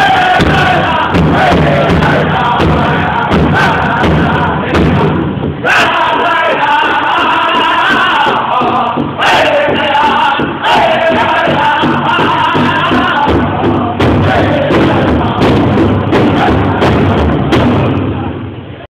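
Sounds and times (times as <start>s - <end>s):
group singing: 0.0s - 17.8s
drum beating steadily: 0.0s - 18.8s.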